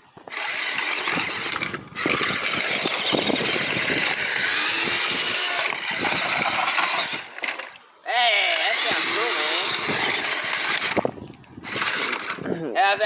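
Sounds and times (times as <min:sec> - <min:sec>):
toy car motor whirring: 0:00.2 - 0:12.5.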